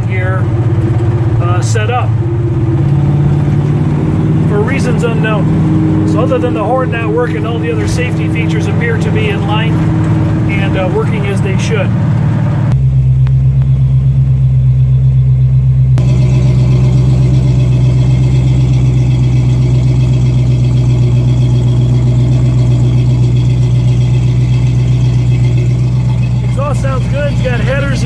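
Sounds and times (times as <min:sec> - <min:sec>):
pickup engine idling: 0:00.0 - 0:28.0.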